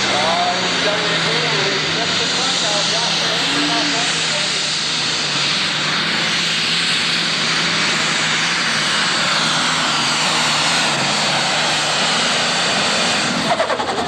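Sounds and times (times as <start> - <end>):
tractor engine at full throttle: 0.0 - 14.0.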